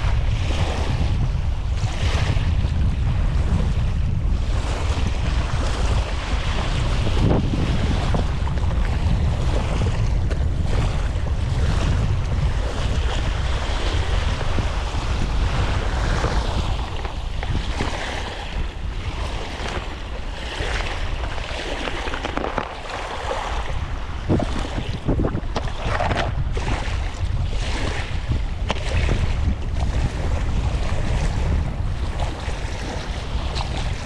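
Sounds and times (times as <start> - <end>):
wind buffeting microphone: 0.0 - 34.0
sea waves washing: 4.4 - 34.0.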